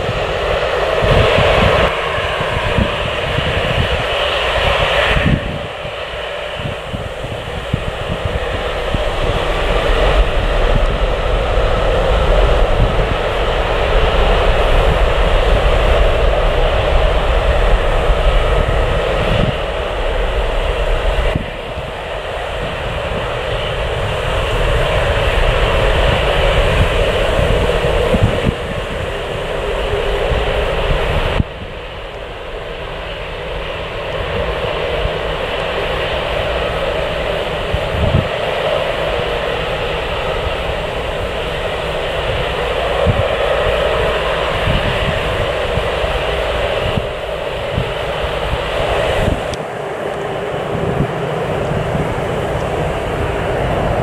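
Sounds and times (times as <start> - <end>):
jet engines rushing and rumbling: 0.0 - 54.0.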